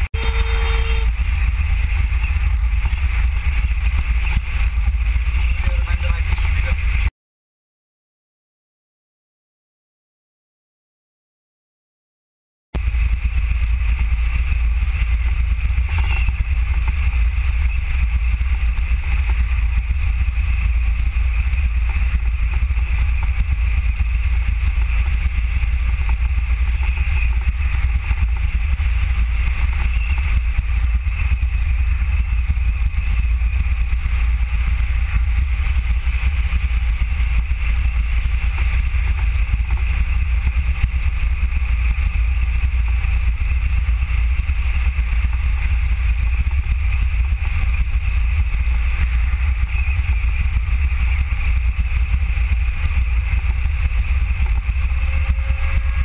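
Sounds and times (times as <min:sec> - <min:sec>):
wind rumble on microphone: 0:00.0 - 0:07.1, 0:12.8 - 0:56.0.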